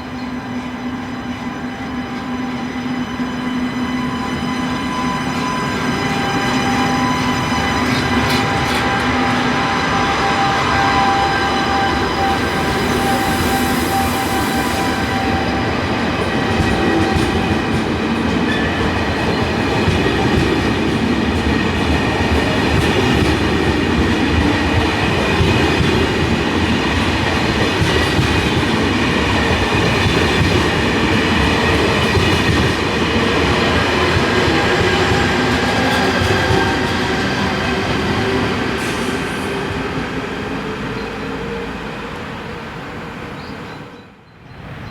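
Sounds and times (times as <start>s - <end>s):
high-speed train rolling: 0.0s - 44.9s.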